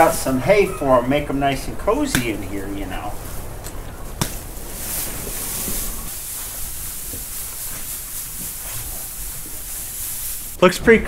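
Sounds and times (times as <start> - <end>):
hay rustling and swishing: 0.0 - 10.6.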